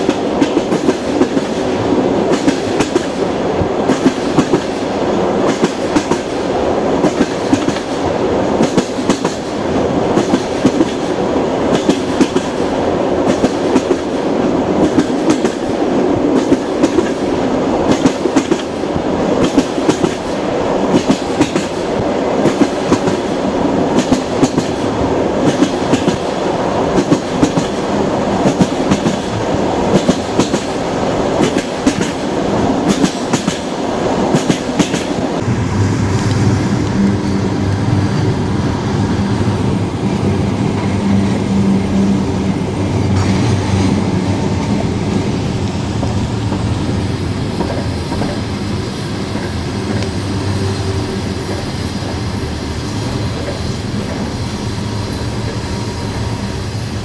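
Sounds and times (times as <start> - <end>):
train running rumble: 0.0 - 57.0
train wheels clacking: 0.0 - 57.0.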